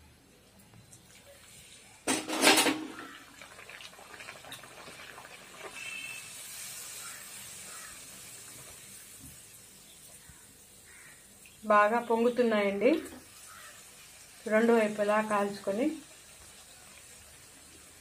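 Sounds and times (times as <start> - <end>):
dough sizzling in hot oil: 1.0 - 18.0.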